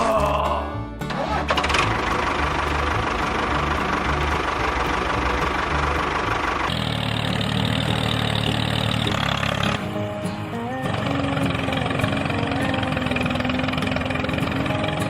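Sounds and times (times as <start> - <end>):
small engine running: 1.0 - 15.0.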